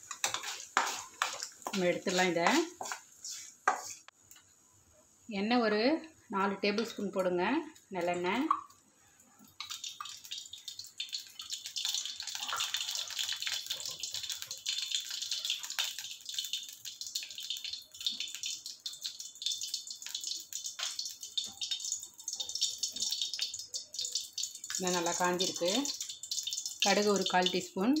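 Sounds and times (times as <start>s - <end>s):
oil sizzling in a pan: 0.0s - 28.0s.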